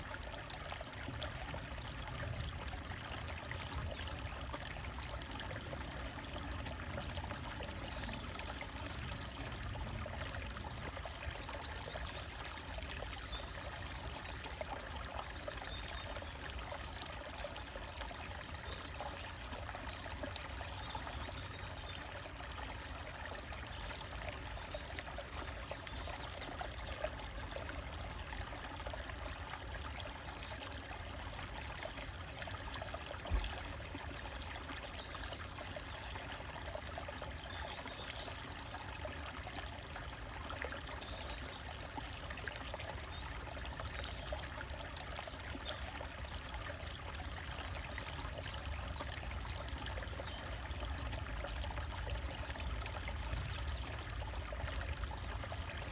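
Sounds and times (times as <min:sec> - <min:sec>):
stream trickling over rocks: 0:00.0 - 0:55.9.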